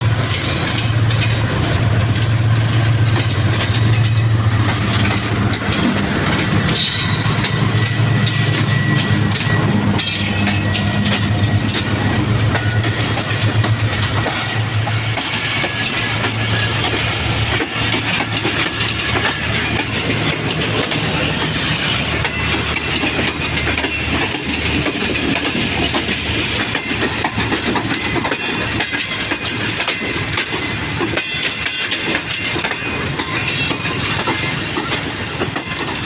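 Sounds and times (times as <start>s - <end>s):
diesel locomotive hum: 0.0s - 36.0s
wheels clicking over rail joints: 0.0s - 36.0s.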